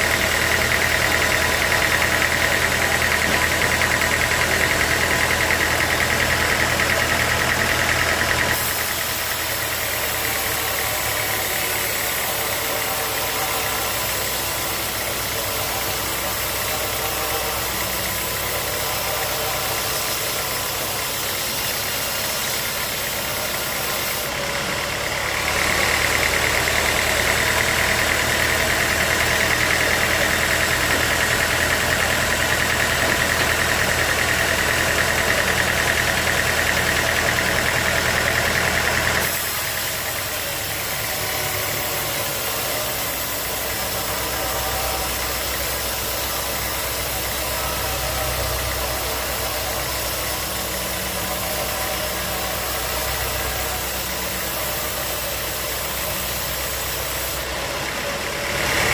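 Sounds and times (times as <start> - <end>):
saw whining through log: 0.0 - 58.9
sawmill machinery running: 0.0 - 58.9.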